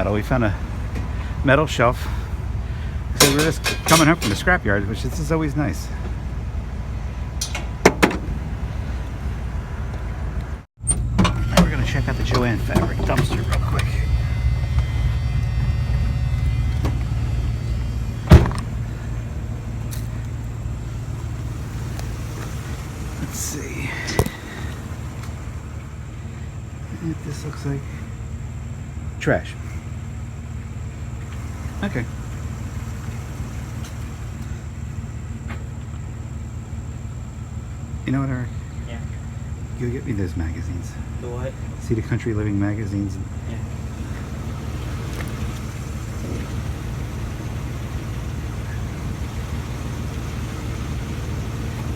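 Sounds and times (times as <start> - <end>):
truck engine and road drone: 0.0 - 51.9.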